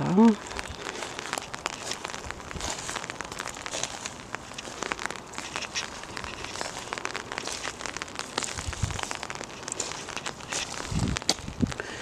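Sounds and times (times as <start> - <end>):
rain ticking on umbrella: 0.0 - 12.0.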